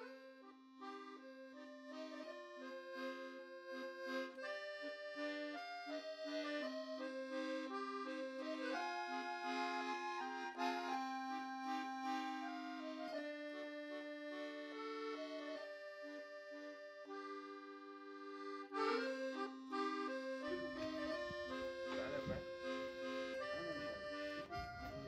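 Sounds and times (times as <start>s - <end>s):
accordion playing a cafe tune: 0.0s - 25.0s.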